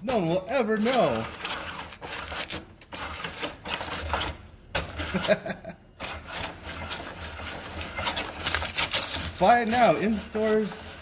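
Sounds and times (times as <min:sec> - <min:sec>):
paper shredder grinding and tearing: 0:00.0 - 0:11.0.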